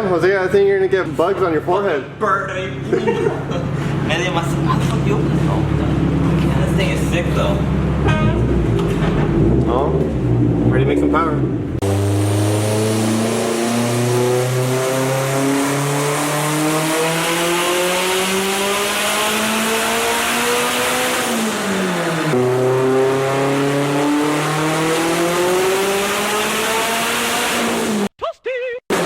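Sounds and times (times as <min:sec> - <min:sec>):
car engine revving: 0:00.1 - 0:28.1.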